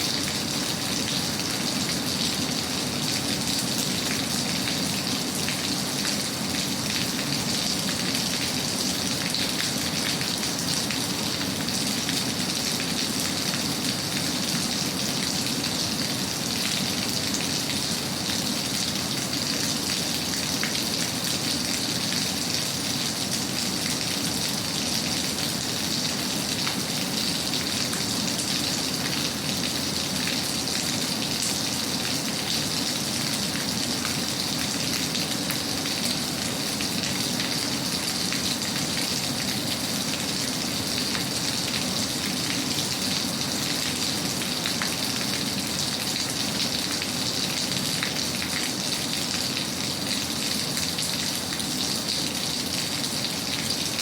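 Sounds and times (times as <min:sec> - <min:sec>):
heavy rain patter: 0:00.0 - 0:54.0.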